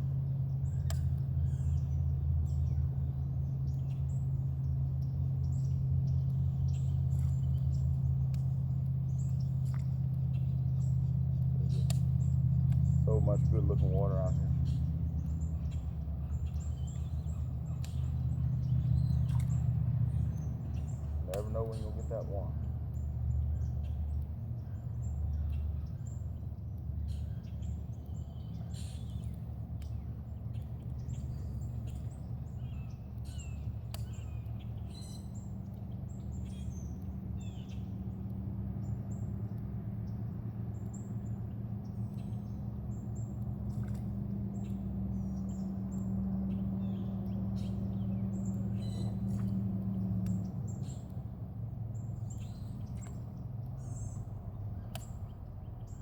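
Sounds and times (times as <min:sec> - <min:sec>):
steady low hum: 0:00.0 - 0:56.0
birds chirping and calling: 0:00.6 - 0:38.1, 0:40.8 - 0:51.2, 0:52.0 - 0:56.0.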